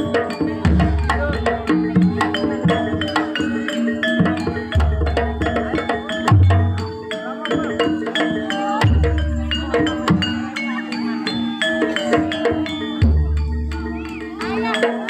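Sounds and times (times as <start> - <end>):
struck metallophone notes: 0.0 - 15.0.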